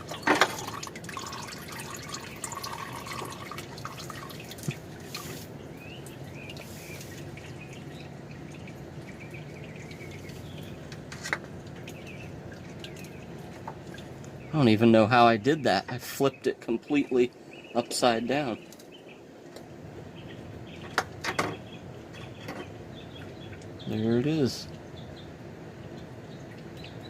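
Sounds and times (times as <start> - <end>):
oil dripping and trickling: 0.0 - 27.0.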